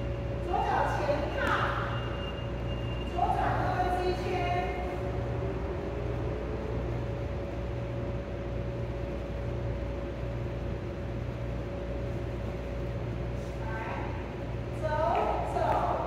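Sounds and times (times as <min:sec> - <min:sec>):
background hum and hiss: 0:00.0 - 0:16.0
pulsing low hum: 0:00.0 - 0:16.0.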